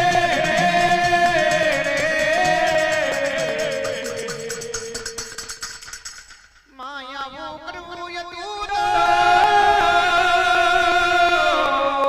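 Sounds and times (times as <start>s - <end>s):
person singing folk melody: 0.0s - 5.4s, 6.7s - 12.0s.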